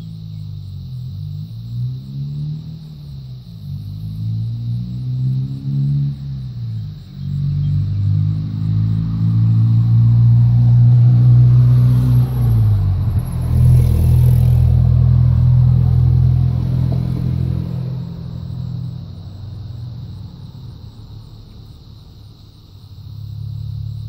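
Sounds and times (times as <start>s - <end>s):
engine humming: 0.0s - 24.0s.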